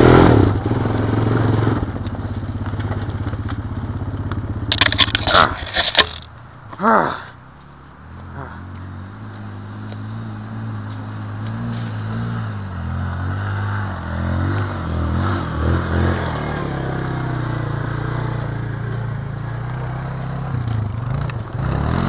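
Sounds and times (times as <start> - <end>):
atv engine running: 0.0 - 6.6, 7.4 - 22.0.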